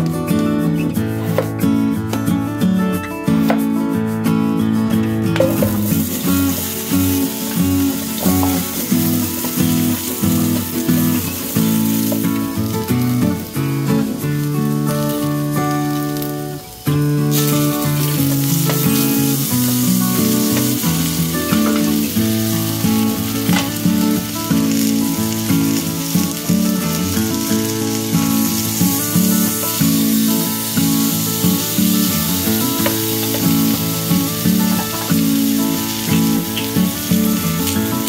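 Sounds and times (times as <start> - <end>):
background music: 0.0 - 38.0
potato wedges sizzling in a pan: 5.3 - 38.0.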